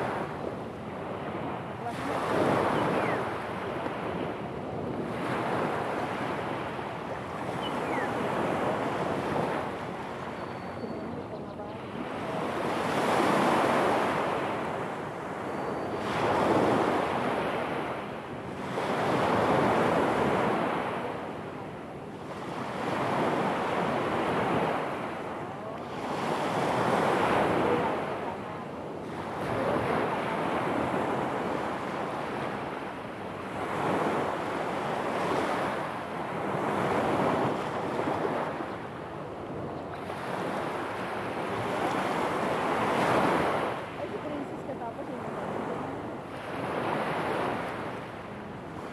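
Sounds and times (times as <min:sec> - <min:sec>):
waves breaking on stony beach: 0:00.0 - 0:10.4, 0:11.6 - 0:48.9.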